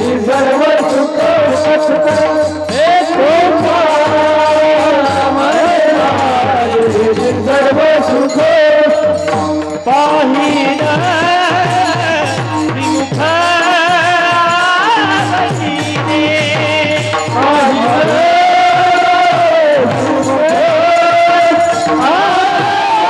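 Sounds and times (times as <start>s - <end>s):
drum strokes: 0.0s - 23.0s
person singing long notes: 0.0s - 23.0s
hand cymbals clashing: 0.2s - 23.0s.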